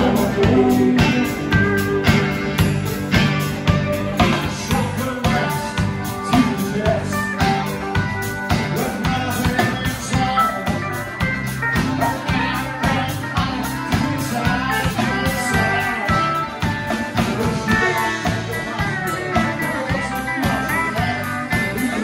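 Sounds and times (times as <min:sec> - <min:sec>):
live country-rock band: 0:00.0 - 0:22.0.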